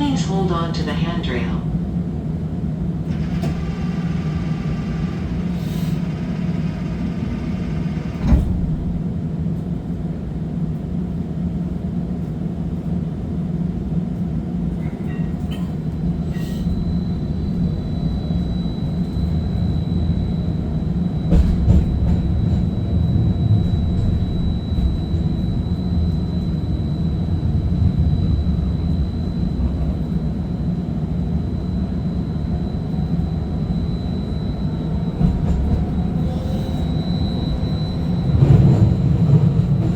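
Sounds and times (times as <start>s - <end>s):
streetcar rumbling on track: 0.0s - 39.9s.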